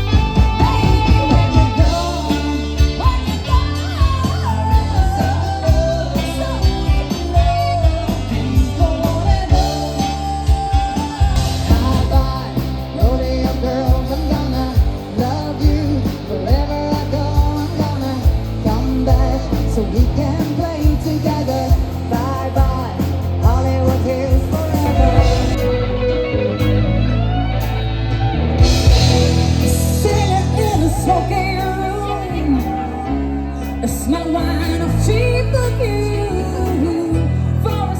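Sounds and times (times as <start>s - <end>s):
bass guitar: 0.0s - 37.9s
drums: 0.0s - 37.9s
electric guitar: 0.0s - 37.9s.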